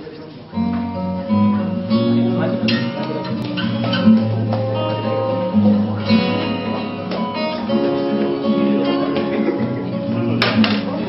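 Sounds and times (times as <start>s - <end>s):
acoustic guitar strumming: 0.6s - 11.0s.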